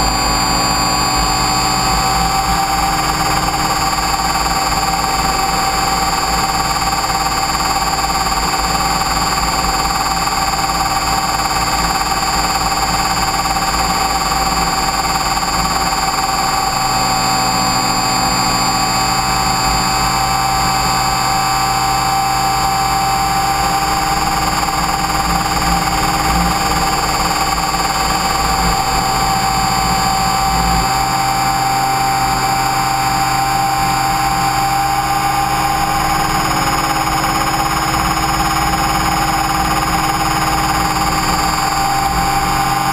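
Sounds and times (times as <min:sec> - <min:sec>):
rc helicopter motor whine: 0:00.0 - 0:42.9.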